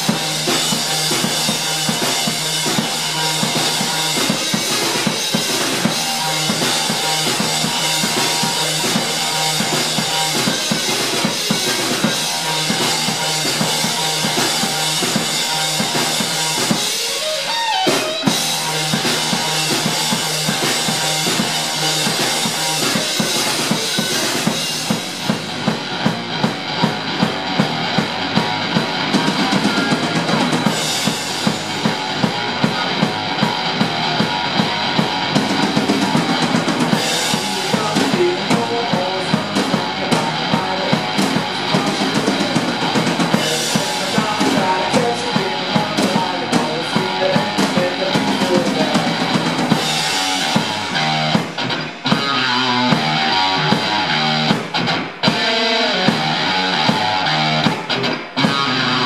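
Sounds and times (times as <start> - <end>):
drum kit beat: 0.0 - 59.0
electric guitar: 0.0 - 59.0
rock band playing: 0.0 - 59.0.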